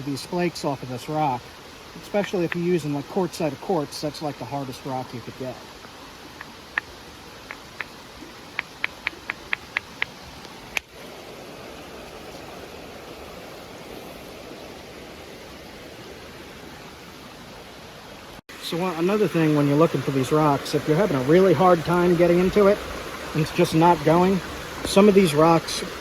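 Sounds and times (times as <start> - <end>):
creek running: 0.0 - 26.0.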